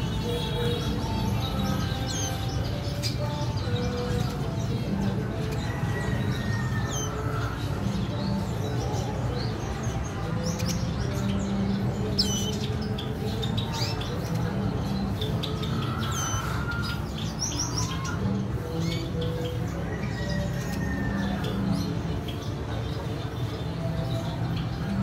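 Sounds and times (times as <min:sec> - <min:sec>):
cage birds chirping: 0:00.0 - 0:25.0.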